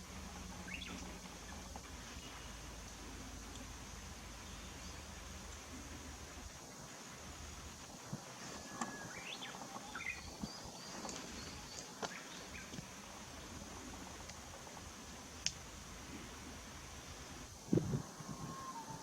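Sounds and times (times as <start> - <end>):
outdoor hiss: 0.0 - 19.0
songbirds chirping: 0.0 - 19.0.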